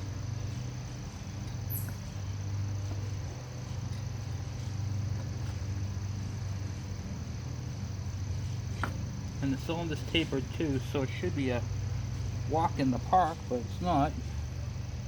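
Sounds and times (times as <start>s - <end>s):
crickets trilling: 0.0s - 15.0s
steady low hum: 0.0s - 15.0s.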